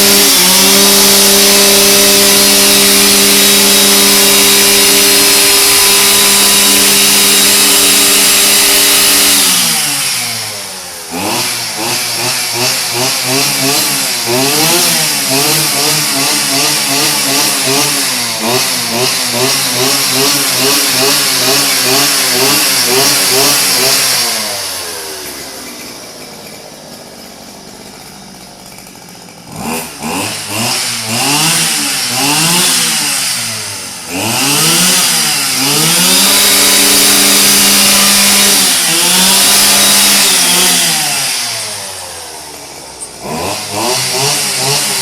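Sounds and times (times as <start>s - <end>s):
string trimmer engine revving: 0.0s - 45.0s.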